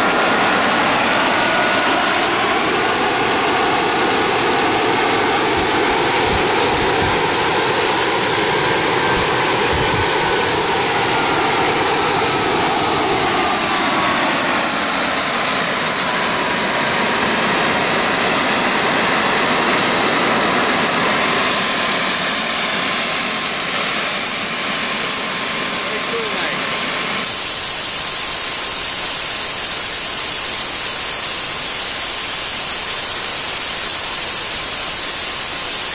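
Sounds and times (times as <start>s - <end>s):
high turbine whine: 0.0s - 35.9s
model jet engine rushing: 0.0s - 35.9s.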